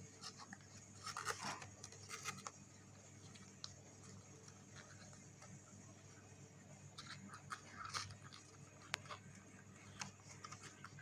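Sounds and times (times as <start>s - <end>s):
paper rustling and crinkling: 0.0s - 5.2s, 7.0s - 11.0s.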